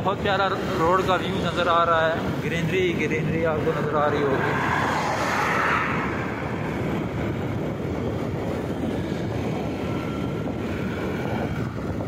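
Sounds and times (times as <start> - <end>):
road noise: 0.0 - 12.0
wind rumble on microphone: 0.0 - 12.0.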